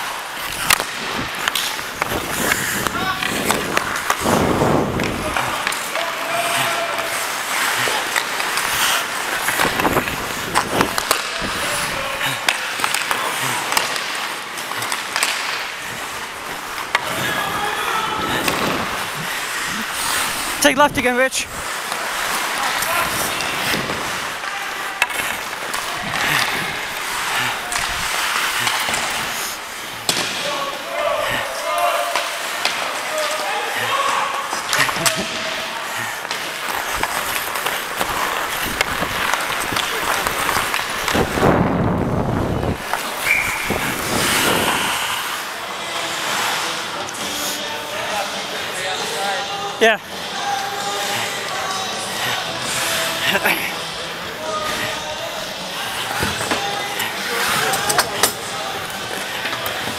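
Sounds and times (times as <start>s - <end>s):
hockey sticks and puck clacking: 0.0s - 41.7s, 42.5s - 59.9s
skates scraping on ice: 0.0s - 59.9s.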